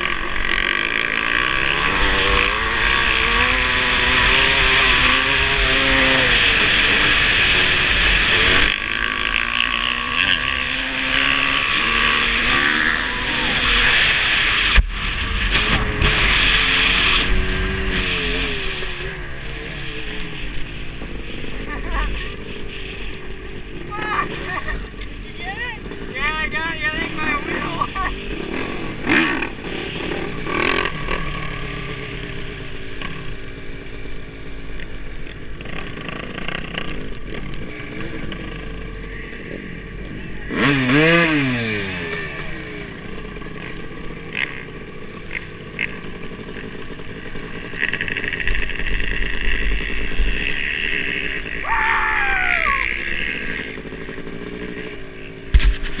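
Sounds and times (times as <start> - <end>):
dirt bike engine running: 0.0 - 56.0
falling engine whine: 0.0 - 56.0
other motorcycles: 0.0 - 56.0.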